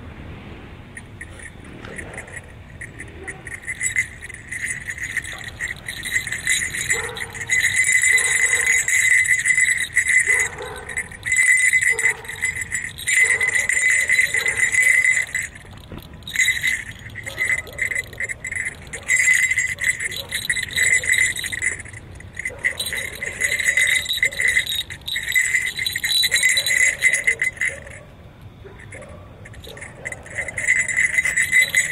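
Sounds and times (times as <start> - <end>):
small jingle bells shaken: 1.0 - 31.9.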